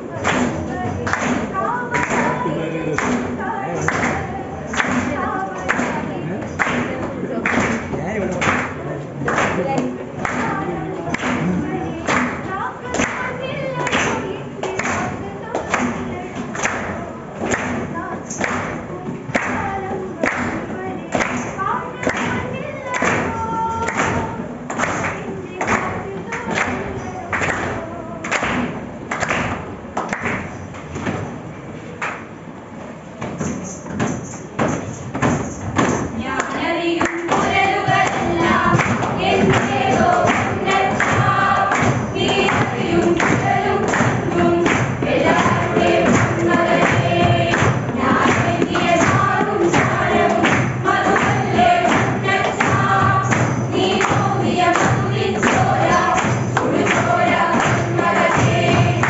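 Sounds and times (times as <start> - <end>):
group of people singing: 0.0 - 29.5, 35.8 - 59.0
rhythmic hand-clapping: 0.0 - 59.0
thumps keeping the beat: 0.0 - 59.0.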